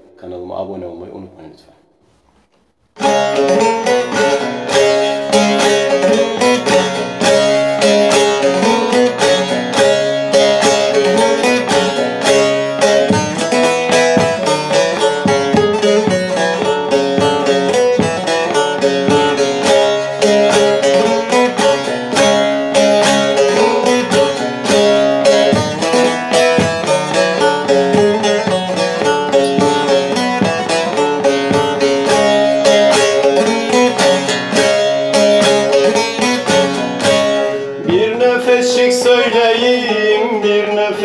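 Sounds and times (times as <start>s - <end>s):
long-necked lute strummed quickly: 3.0s - 41.0s.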